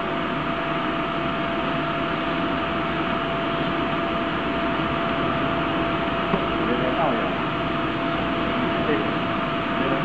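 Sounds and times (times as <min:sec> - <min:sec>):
steady whine: 0:00.0 - 0:10.0
workshop machinery humming: 0:00.0 - 0:10.0.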